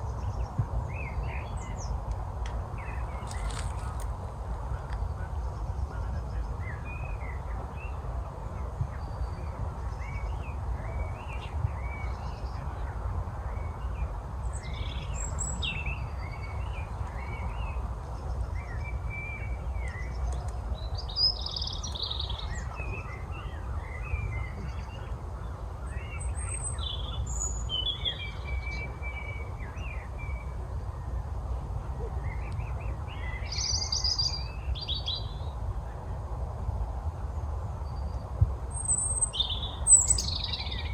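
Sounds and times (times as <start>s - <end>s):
songbirds chirping and singing: 0.0s - 36.1s, 37.6s - 40.9s.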